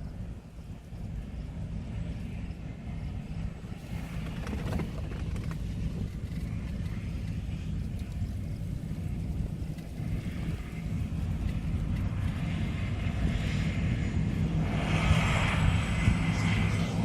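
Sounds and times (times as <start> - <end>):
combine harvester engine rumble: 0.0 - 17.0.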